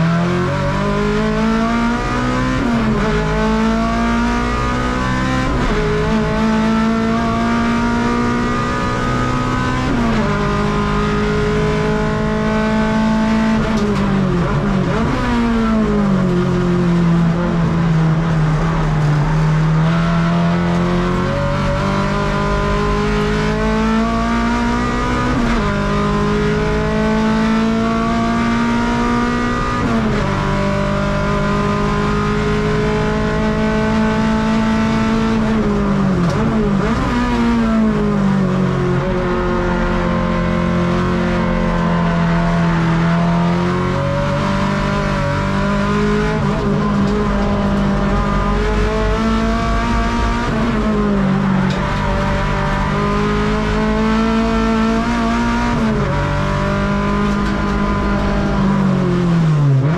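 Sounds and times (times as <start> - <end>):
race car engine under hard load: 0.0 - 59.9.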